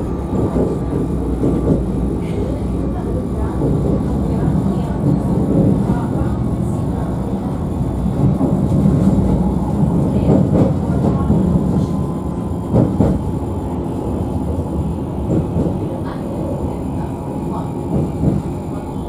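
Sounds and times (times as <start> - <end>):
tram wheels rumbling: 0.0 - 19.0.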